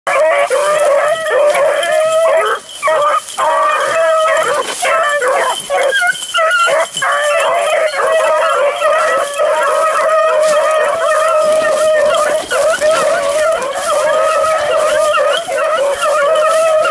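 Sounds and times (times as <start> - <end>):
beagles baying: 0.1 - 16.9.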